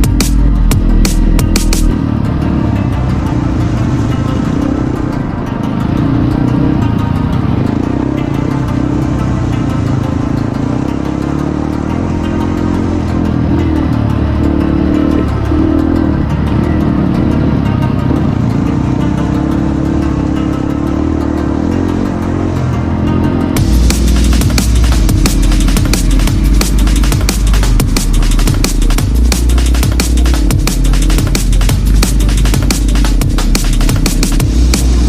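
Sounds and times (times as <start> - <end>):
drum and bass music: 0.0 - 35.0
motorcycle engine running: 0.0 - 35.0.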